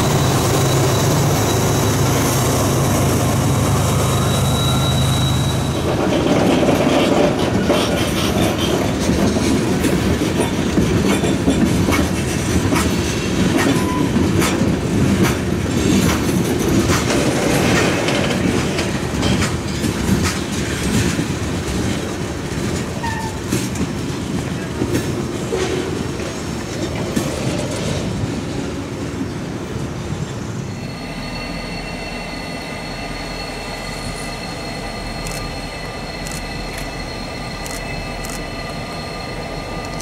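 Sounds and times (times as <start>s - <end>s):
freight train rumble: 0.0s - 40.0s.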